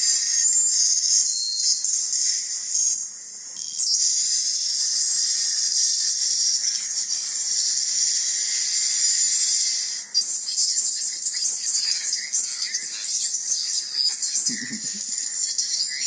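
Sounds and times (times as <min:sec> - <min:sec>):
high-pitched recording hiss: 0:00.0 - 0:16.0.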